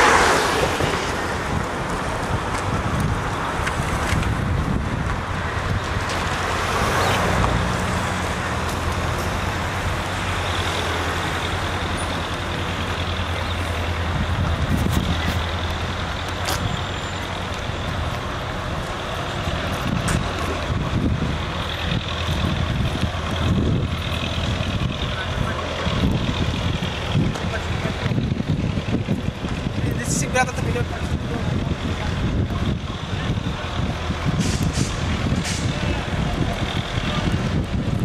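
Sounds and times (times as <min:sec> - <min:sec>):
street traffic noise: 0:00.0 - 0:38.0
vehicle engine running: 0:00.0 - 0:38.0.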